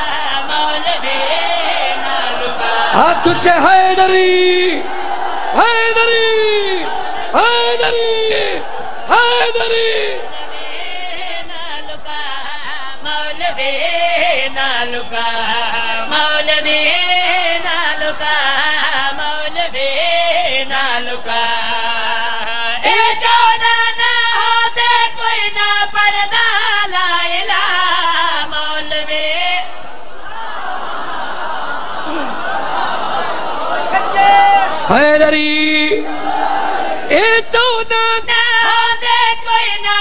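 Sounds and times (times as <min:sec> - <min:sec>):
man singing through a microphone: 0:00.0 - 0:04.9, 0:05.5 - 0:29.8, 0:34.5 - 0:36.3, 0:37.0 - 0:40.0.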